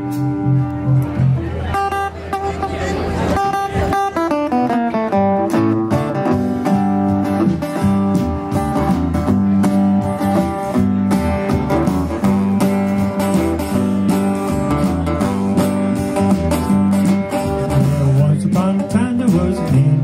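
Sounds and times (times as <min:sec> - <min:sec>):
drums: 0:00.0 - 0:20.0
electric bass: 0:00.0 - 0:20.0
strummed acoustic guitar: 0:00.0 - 0:20.0.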